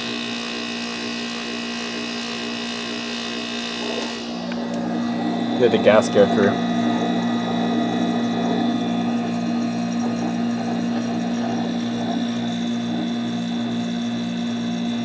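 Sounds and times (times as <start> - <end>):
air conditioner compressor humming: 1.2 - 15.0.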